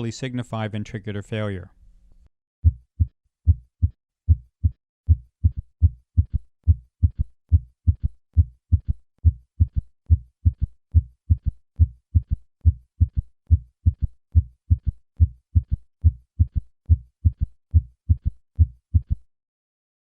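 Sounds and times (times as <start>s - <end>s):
heartbeat with gallop rhythm: 2.6s - 19.3s.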